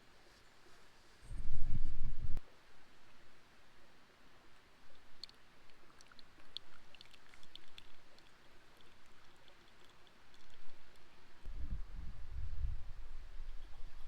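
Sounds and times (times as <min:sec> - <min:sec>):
soft steady hiss: 0:00.0 - 0:14.0.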